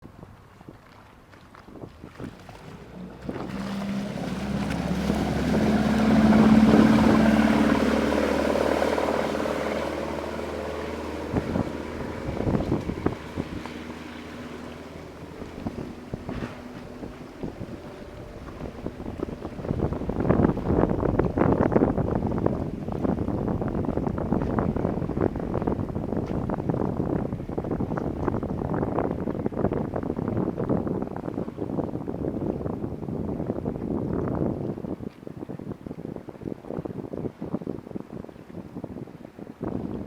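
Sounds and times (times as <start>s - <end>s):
wind gusts on microphone: 0.0s - 40.0s
speedboat engine running: 0.1s - 40.0s.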